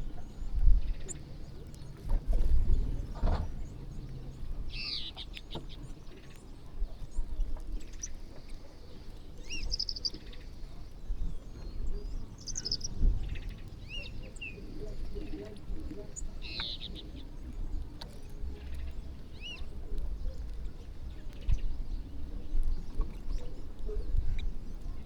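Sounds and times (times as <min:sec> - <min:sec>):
steady low rumble: 0:00.0 - 0:07.9, 0:09.4 - 0:25.0
small birds chirping: 0:00.0 - 0:25.0.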